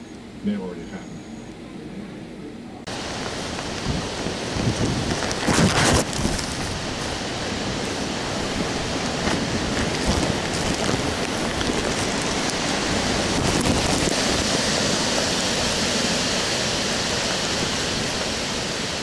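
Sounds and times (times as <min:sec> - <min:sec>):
strong wind through trees: 0:00.0 - 0:19.0
wind buffeting microphone: 0:00.0 - 0:19.0
rain: 0:02.8 - 0:19.0.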